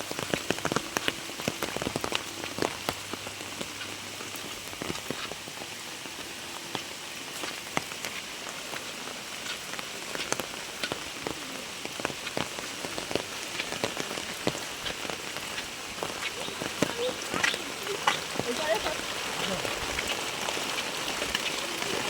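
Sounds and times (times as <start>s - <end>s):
heavy rain hissing: 0.0s - 22.0s
raindrops striking surfaces: 0.0s - 22.0s.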